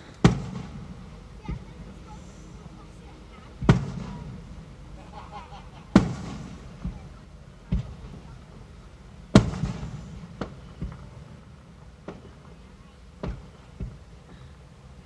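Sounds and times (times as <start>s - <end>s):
fireworks booming: 0.0s - 15.0s
small firework bangs: 0.0s - 15.0s.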